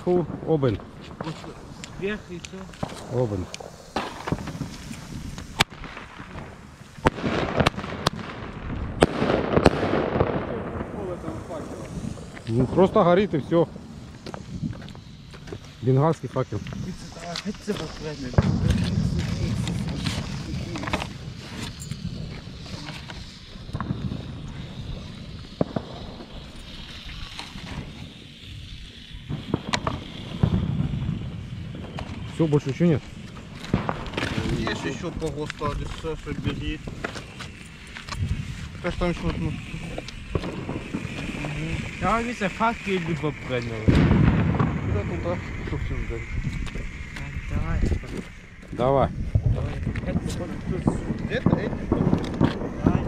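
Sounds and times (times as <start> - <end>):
crackling hiss: 0.0 - 53.0
firecracker bangs: 0.0 - 53.0
sharp pops: 0.0 - 53.0
wind buffeting microphone: 0.0 - 53.0.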